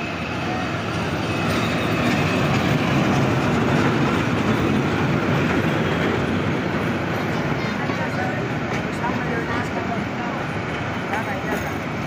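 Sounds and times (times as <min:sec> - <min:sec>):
diesel passenger train passing: 0:00.0 - 0:12.0.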